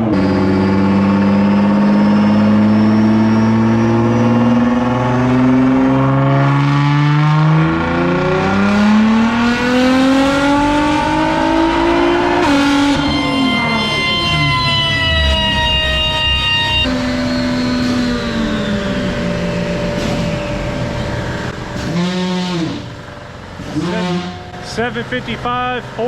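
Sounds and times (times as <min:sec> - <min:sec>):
turbocharged engine revving under load: 0:00.0 - 0:26.0.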